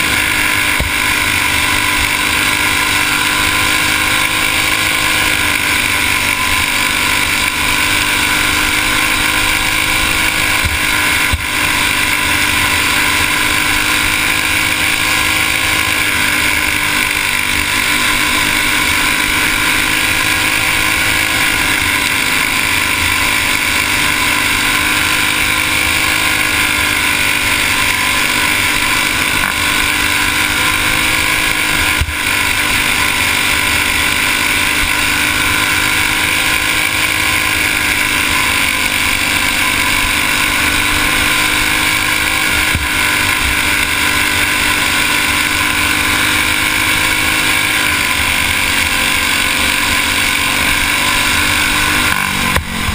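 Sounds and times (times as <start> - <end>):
go-kart engine running hard: 0.0 - 52.9.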